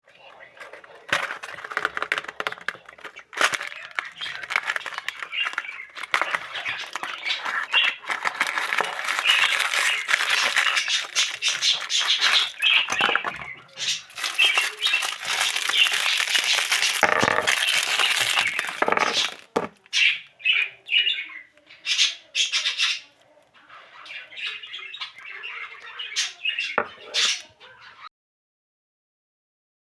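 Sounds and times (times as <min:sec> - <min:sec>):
birds chirping and calling: 0:00.1 - 0:28.1.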